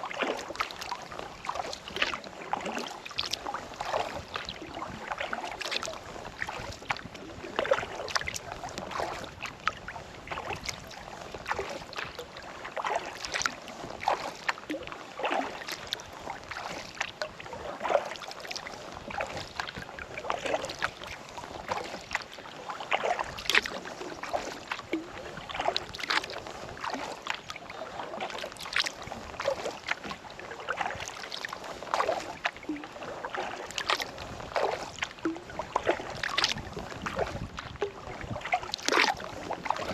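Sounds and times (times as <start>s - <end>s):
kayak paddle splashing in water: 0.0s - 39.9s
water dripping from paddle: 0.0s - 39.9s.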